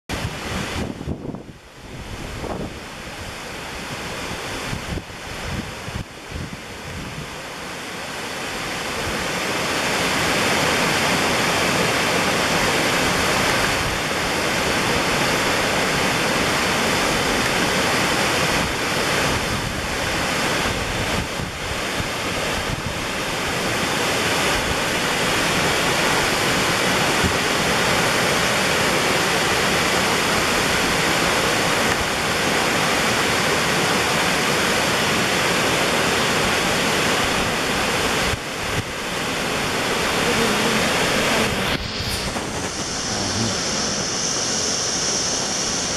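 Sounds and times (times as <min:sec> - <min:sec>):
waterfall crashing onto rocks: 0:00.1 - 0:45.9.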